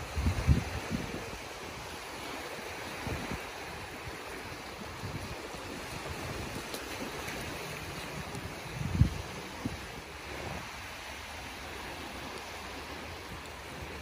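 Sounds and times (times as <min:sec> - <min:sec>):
small waves washing on beach: 0:00.0 - 0:14.0
wind buffeting microphone: 0:00.0 - 0:14.0.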